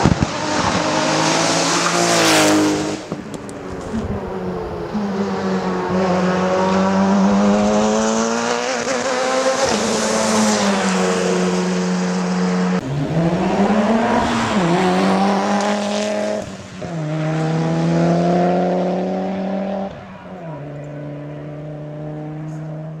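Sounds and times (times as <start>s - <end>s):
race car engine with gear changes: 0.0s - 23.0s.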